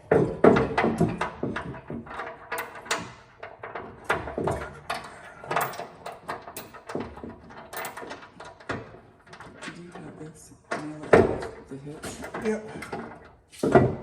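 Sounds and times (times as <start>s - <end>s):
metal knocks and clunks: 0.0s - 14.0s.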